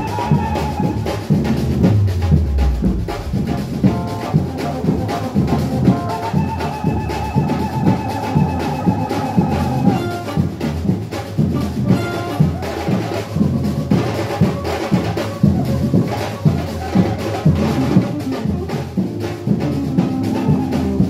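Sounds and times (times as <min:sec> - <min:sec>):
hand drums beating rhythm: 0:00.0 - 0:21.0
percussion band: 0:00.0 - 0:21.0.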